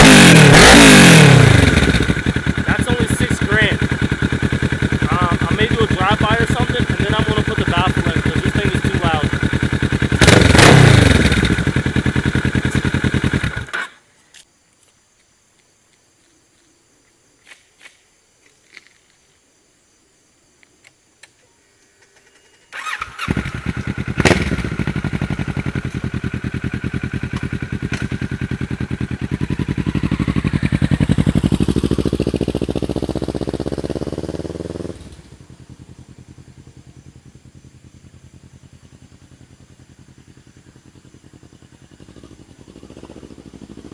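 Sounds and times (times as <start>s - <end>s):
motorcycle engine revving: 0.0s - 13.8s, 22.2s - 43.9s.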